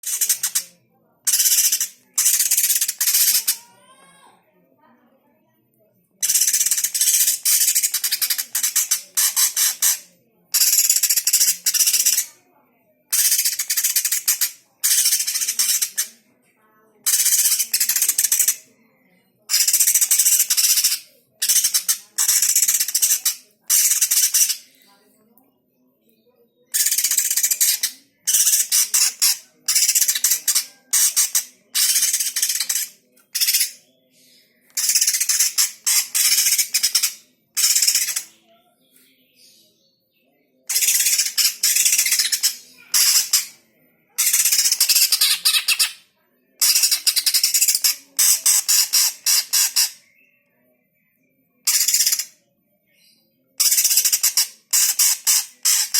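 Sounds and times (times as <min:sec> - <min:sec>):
bird high-pitched chattering song: 0:00.0 - 0:03.8, 0:06.2 - 0:12.3, 0:13.1 - 0:16.2, 0:17.0 - 0:18.7, 0:19.5 - 0:24.9, 0:26.7 - 0:39.9, 0:40.6 - 0:43.6, 0:44.2 - 0:50.3, 0:51.6 - 0:52.4, 0:53.0 - 0:55.9.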